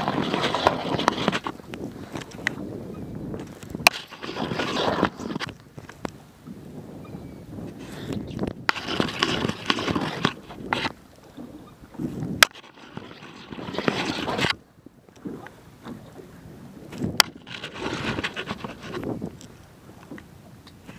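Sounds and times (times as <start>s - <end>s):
water swishing: 0.0s - 6.5s, 7.5s - 20.9s.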